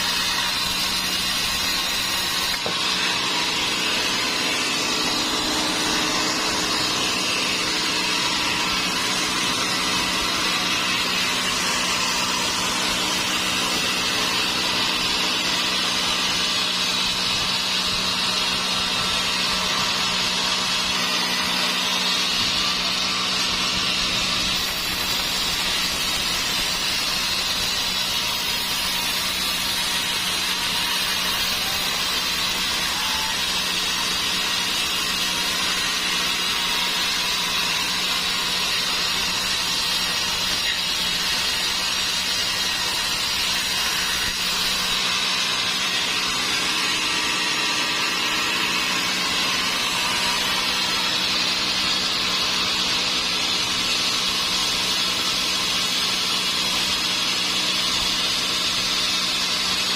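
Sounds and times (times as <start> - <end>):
sawmill saw whining: 0.0 - 59.9.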